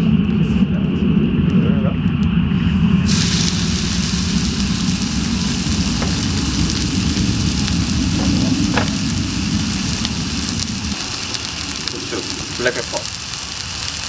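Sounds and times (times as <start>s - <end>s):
steady low rumble: 0.0s - 14.0s
wood fire crackling: 2.5s - 14.0s.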